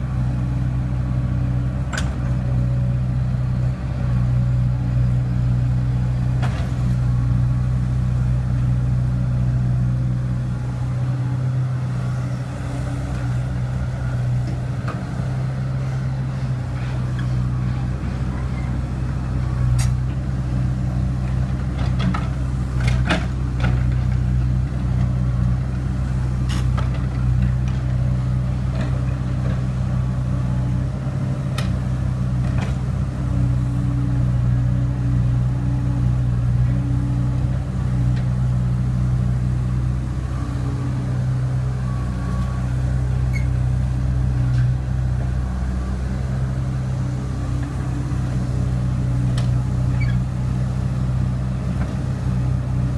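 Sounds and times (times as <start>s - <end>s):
diesel engine droning: 0.0s - 52.9s.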